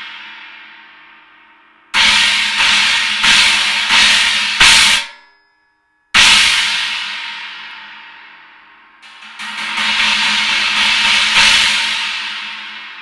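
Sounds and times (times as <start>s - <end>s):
cymbal struck: 0.0s - 5.5s, 6.2s - 13.0s.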